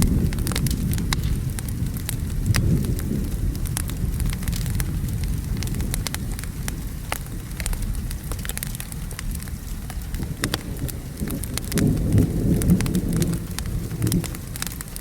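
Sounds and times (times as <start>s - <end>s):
low rumble of thunder: 0.0s - 15.0s
steady rain: 0.0s - 15.0s
wood fire crackling and popping: 0.0s - 15.0s.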